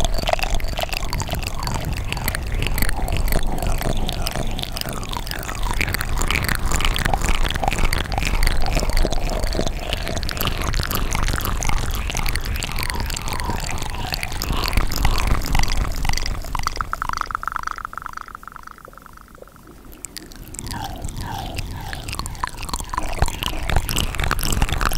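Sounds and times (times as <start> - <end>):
wet mouth clicks and smacks: 0.0 - 24.9.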